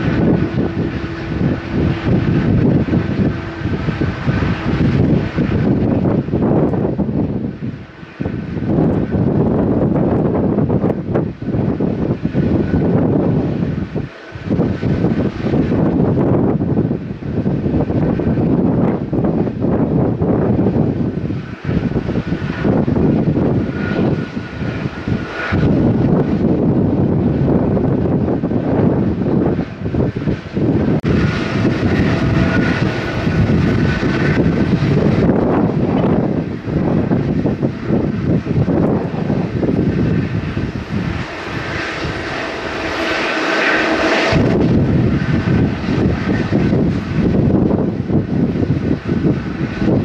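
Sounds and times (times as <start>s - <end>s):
faint high engine whine: 0.0s - 50.0s
jet engine rumble: 0.0s - 50.0s
wind buffeting microphone: 0.0s - 50.0s.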